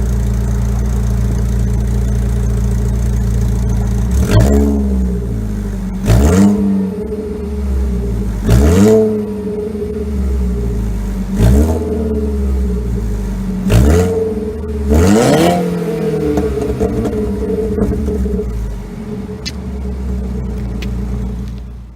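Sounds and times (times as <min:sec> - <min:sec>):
car engine idling and revving: 0:00.0 - 0:21.9.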